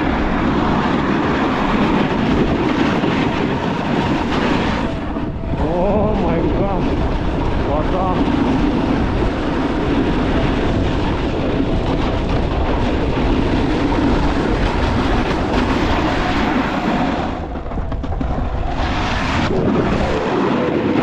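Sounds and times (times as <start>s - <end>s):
rumble of the ride: 0.0s - 21.0s
snowmobile engine drone: 0.0s - 21.0s.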